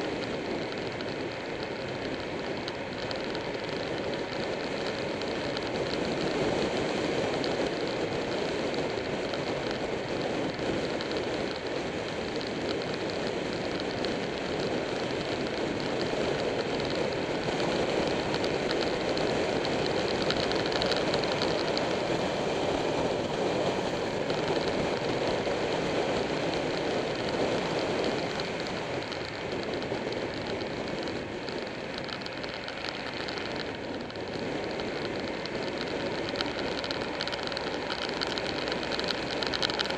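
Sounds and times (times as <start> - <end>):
motorcycle engine and tyre noise: 0.0 - 39.9
wind rushing over microphone: 0.0 - 39.9.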